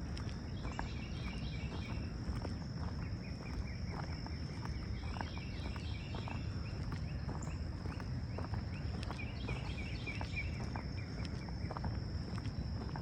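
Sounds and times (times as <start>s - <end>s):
constant low rumble: 0.0s - 13.0s
footsteps on trail: 0.0s - 13.0s.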